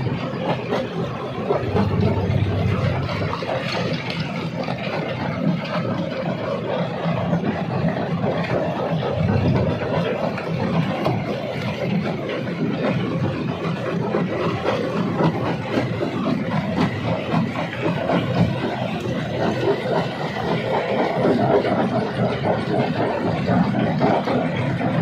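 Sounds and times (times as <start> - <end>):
rock crusher rumbling: 0.0 - 20.6.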